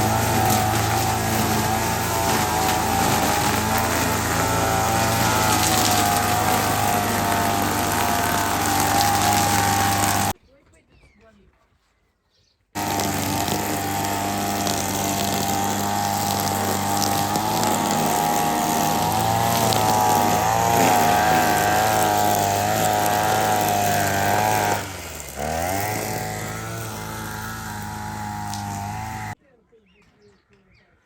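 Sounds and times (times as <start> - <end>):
brush cutter engine running: 0.0 - 10.4, 12.8 - 29.4.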